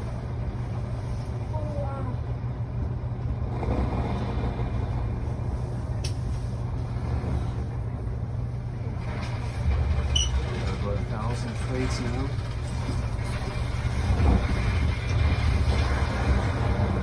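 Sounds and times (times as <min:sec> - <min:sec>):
elevator rumble: 0:00.0 - 0:17.0.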